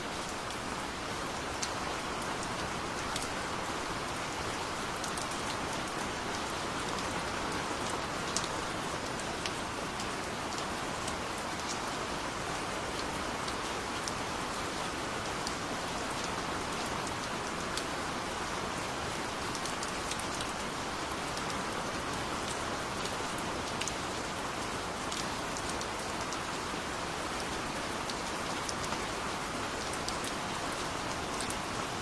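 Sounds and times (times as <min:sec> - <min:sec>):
gentle rain hiss: 0:00.0 - 0:32.0.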